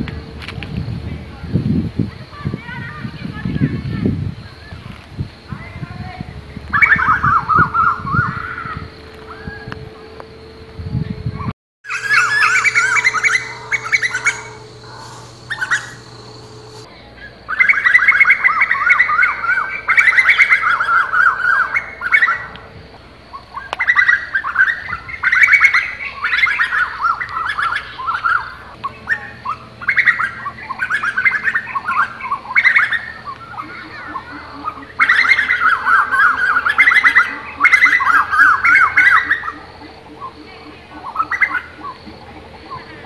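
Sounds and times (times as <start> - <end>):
birds chirping rapidly: 2.1 - 43.0.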